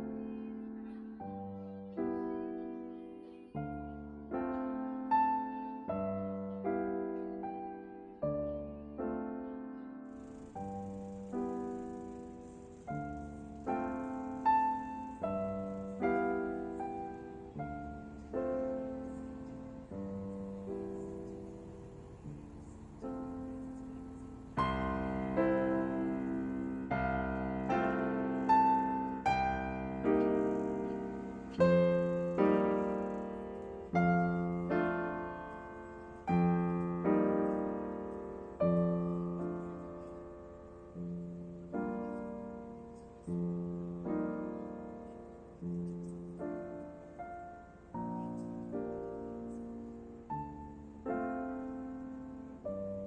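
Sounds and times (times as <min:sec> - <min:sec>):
solo piano music: 0:00.0 - 0:53.0.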